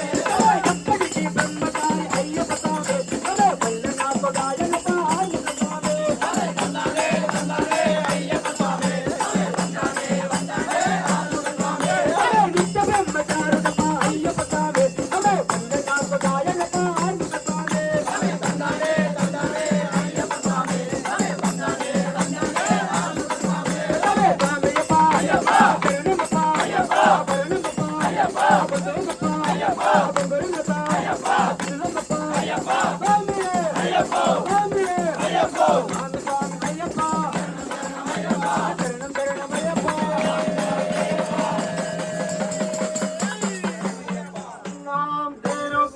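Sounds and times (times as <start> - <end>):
group chanting devotional song: 0.0 - 45.9
rattling hand percussion: 0.0 - 45.9.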